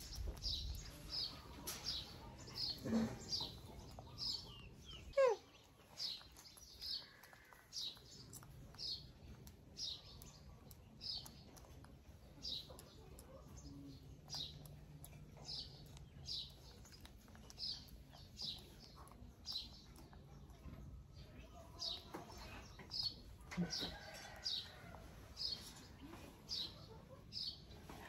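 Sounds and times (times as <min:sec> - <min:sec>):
bird chirping: 0:00.0 - 0:27.7.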